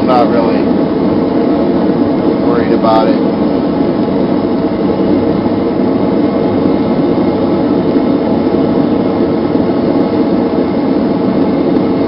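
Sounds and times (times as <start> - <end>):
gas forge burner roaring: 0.0 - 12.0.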